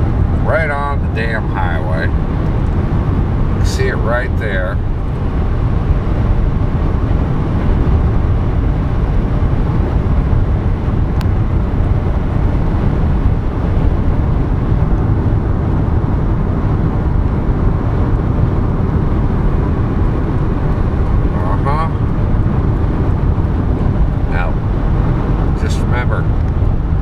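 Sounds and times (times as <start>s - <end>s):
car road noise from cabin: 0.0s - 27.0s.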